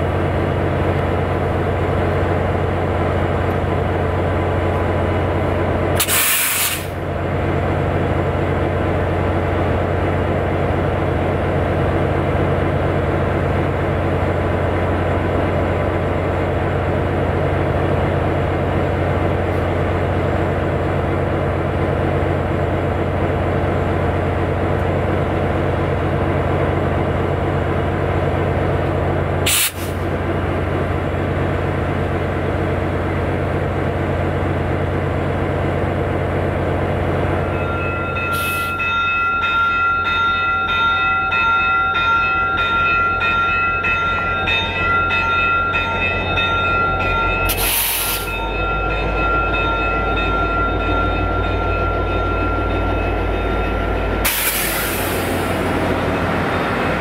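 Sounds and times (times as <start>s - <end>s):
diesel train rumbling past: 0.0s - 57.0s.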